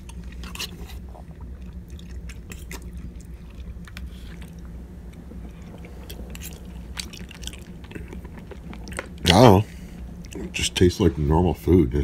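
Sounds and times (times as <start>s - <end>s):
close-up chewing: 0.0s - 10.7s
steady low hum: 0.0s - 12.0s.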